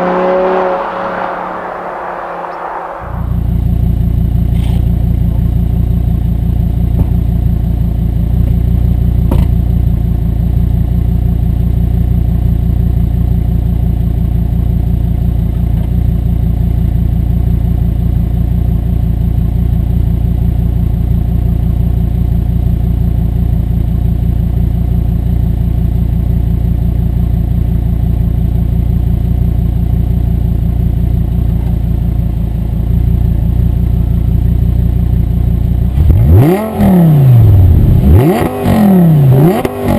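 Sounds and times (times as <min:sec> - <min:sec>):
sports car engine running: 0:00.0 - 0:39.9.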